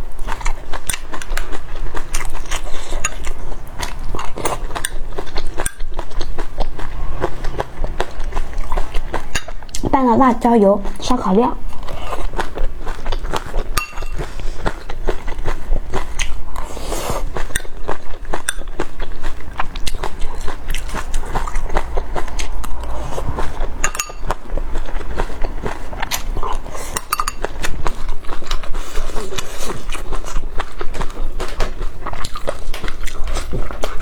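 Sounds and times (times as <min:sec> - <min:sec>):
person chewing and biting: 0:00.0 - 0:09.9, 0:11.6 - 0:34.0.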